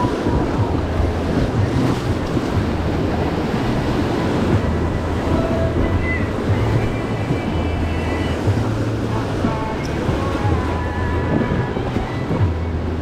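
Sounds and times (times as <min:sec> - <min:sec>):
low rumble: 0:00.0 - 0:13.0
whitewater rushing against raft: 0:00.0 - 0:13.0.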